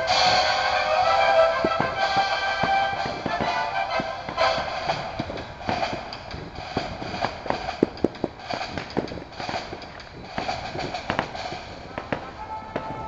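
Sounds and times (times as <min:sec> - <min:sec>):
firecrackers popping: 0:00.0 - 0:13.0.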